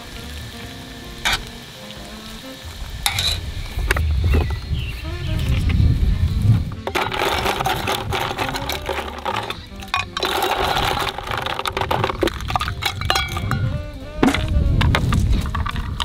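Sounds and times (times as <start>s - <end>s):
background music: 0.0s - 5.6s, 6.4s - 16.0s
dumplings sizzling in oil: 0.0s - 13.8s.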